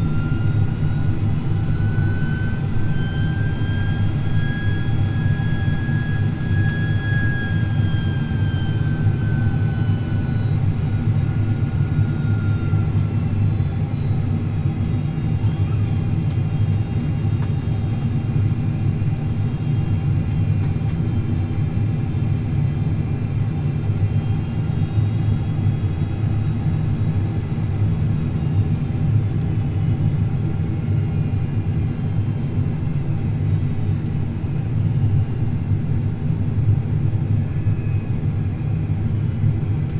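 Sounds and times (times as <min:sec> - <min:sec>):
jet cabin engine rumble: 0:00.0 - 0:39.9.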